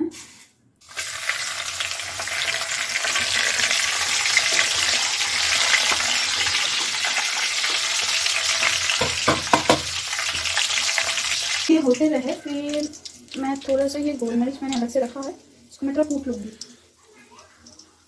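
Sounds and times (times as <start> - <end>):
spices sizzling in hot oil: 0.8 - 18.0.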